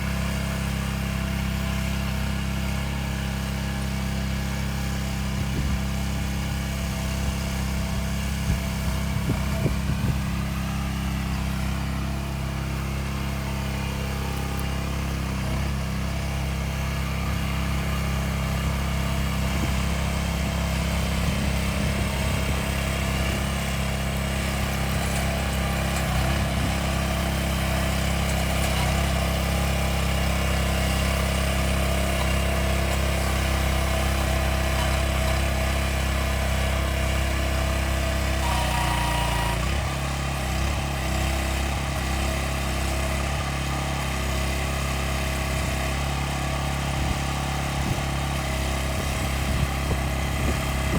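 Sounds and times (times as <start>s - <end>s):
digging machine engine running: 0.0s - 50.9s.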